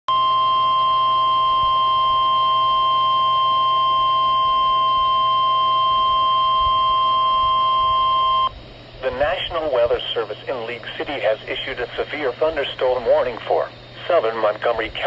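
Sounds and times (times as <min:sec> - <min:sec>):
steady warning alarm tone: 0:00.1 - 0:15.0.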